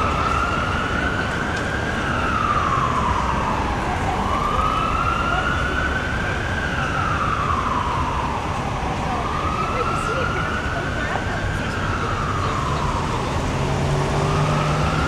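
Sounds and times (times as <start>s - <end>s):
emergency siren wailing: 0.0s - 15.0s
street traffic noise: 0.0s - 15.0s.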